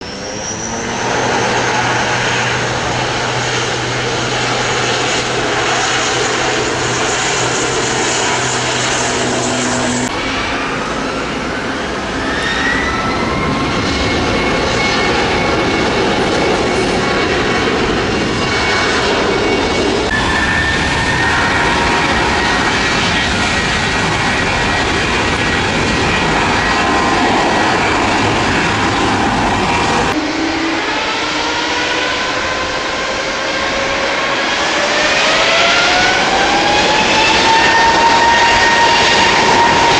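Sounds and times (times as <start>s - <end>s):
aircraft engines at takeoff power: 0.0s - 39.9s.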